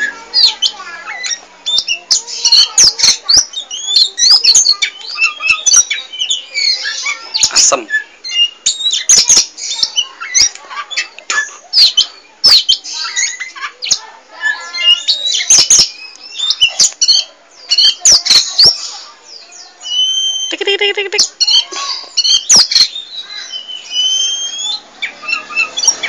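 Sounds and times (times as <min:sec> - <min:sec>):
bird singing: 0:00.0 - 0:26.0.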